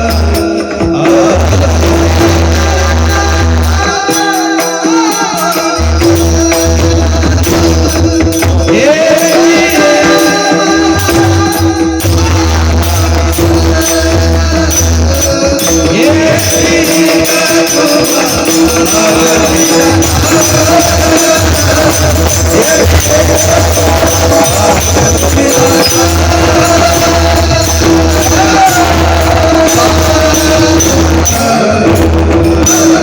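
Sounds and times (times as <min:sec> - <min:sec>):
jingling percussion: 0:00.0 - 0:33.0
pakhawaj drum: 0:00.0 - 0:33.0
person singing: 0:00.0 - 0:33.0.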